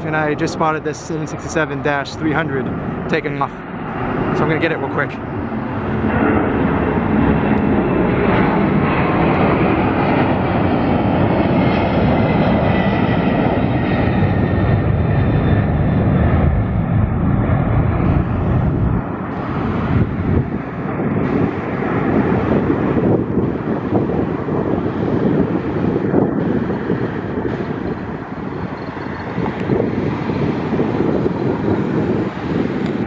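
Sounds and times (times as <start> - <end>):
faint jet whine: 0.0 - 33.0
jet engines rumbling: 0.0 - 33.0.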